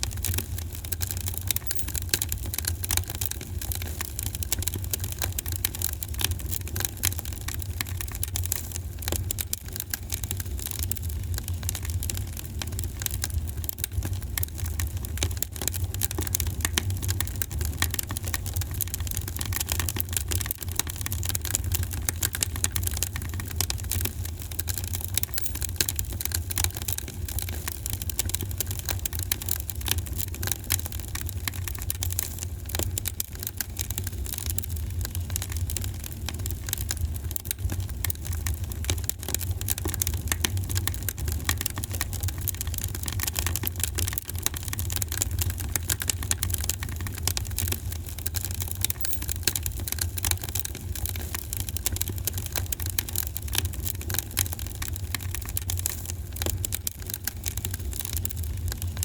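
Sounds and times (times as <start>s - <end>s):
fire crackling and popping: 0.0s - 49.2s, 50.0s - 59.0s.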